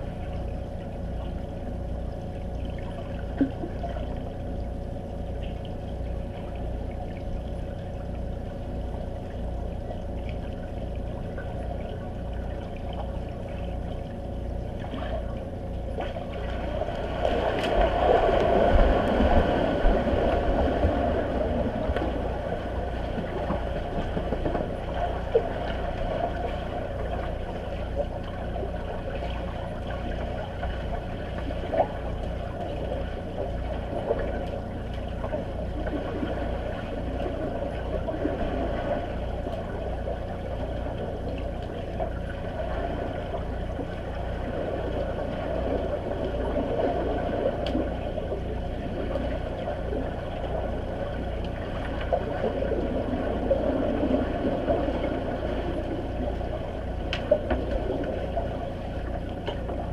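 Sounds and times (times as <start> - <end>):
low pulsing hum: 0.0 - 59.9
muffled underwater splashing: 9.0 - 59.9.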